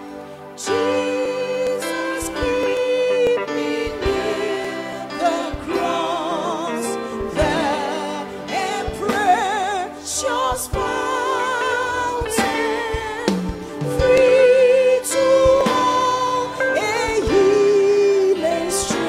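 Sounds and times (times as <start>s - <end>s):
person singing with vibrato: 0.0s - 19.0s
sustained instrumental chords: 0.0s - 19.0s.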